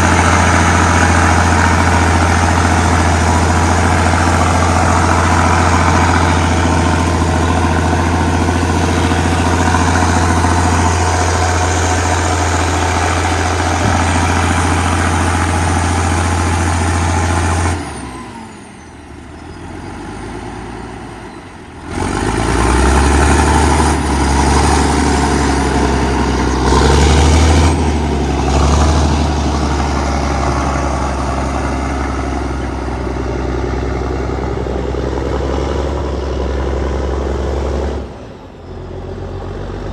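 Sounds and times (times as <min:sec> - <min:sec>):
diesel dozer engine running: 0:00.0 - 0:39.9.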